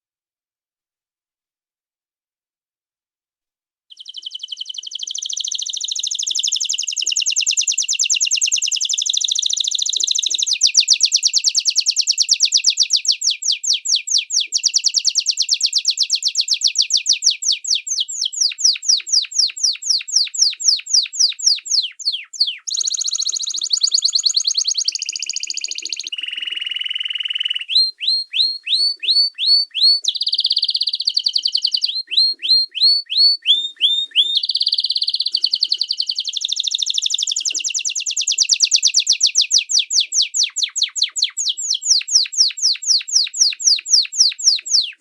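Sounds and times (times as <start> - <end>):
songbird trilling: 3.9 - 45.0.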